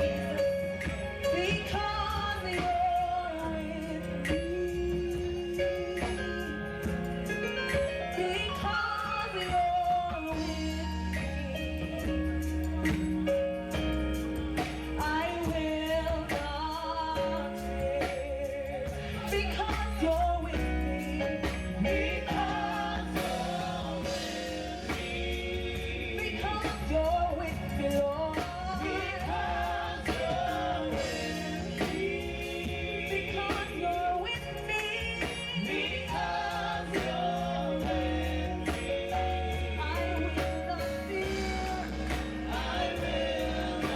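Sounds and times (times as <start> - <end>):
choir singing worship song: 0.0 - 43.9
instrumental backing with bass: 0.0 - 43.9.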